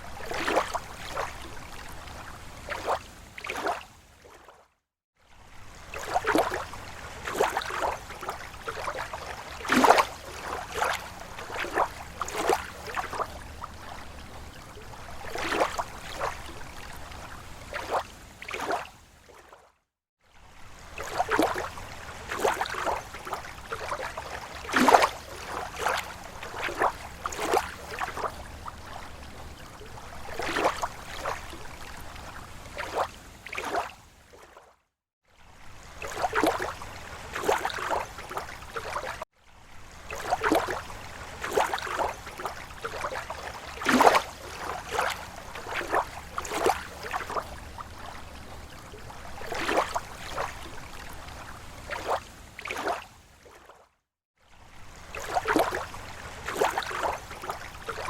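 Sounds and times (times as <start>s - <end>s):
lake waves lapping against shore: 0.0s - 19.7s, 20.3s - 58.0s.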